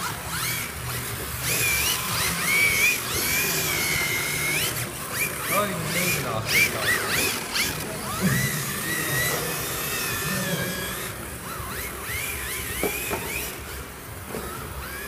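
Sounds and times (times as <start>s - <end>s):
rc car motor whine: 0.0s - 15.0s.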